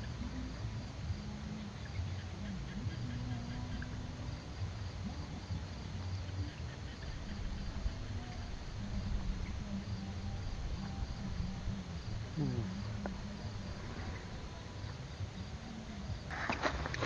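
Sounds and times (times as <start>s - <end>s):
field crickets chirping: 0.0s - 17.0s
low steady rumble: 0.0s - 17.0s.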